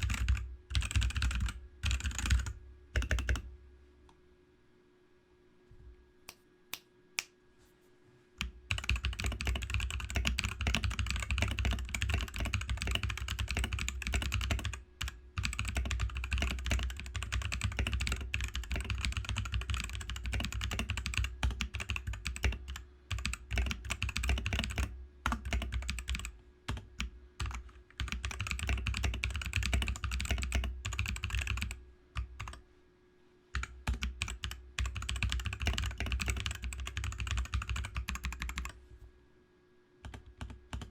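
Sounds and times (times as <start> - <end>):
mechanical keyboard typing: 0.0 - 3.4, 8.4 - 32.6, 33.5 - 38.8, 40.0 - 40.9.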